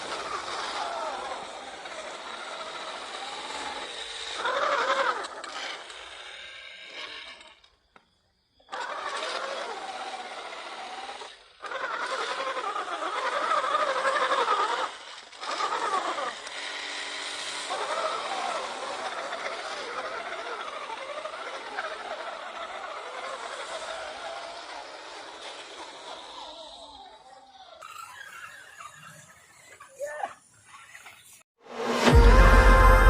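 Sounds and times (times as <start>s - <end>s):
toy electric motor whining: 0.0s - 31.5s.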